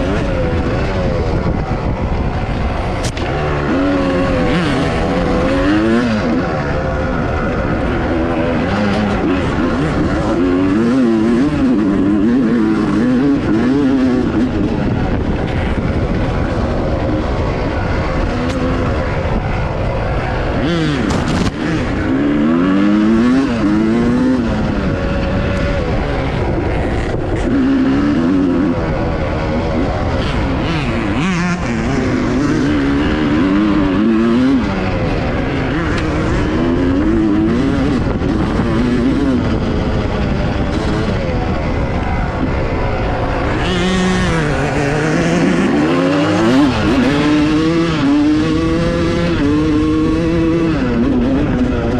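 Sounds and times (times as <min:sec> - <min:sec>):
dirt bike engine revving: 0:00.0 - 0:51.9
rough rushing noise: 0:00.0 - 0:51.9.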